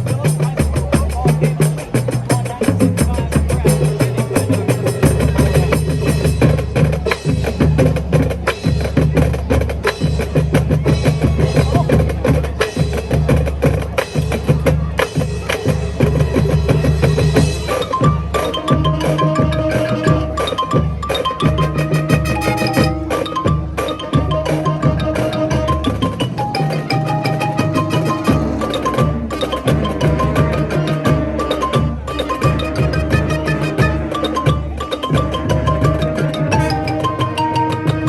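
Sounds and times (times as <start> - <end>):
drums fast rhythm: 0.0 - 38.0
mallet percussion figure: 0.0 - 38.0.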